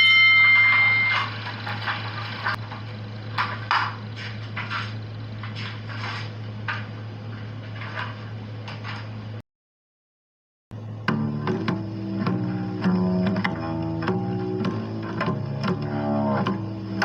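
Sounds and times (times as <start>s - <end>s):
steady low hum: 0.0s - 9.4s, 10.7s - 17.0s.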